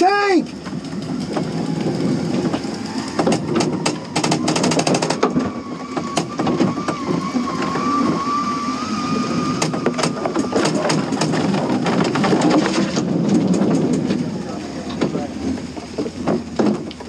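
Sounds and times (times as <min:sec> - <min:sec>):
tank engine rumble: 0:00.4 - 0:17.0.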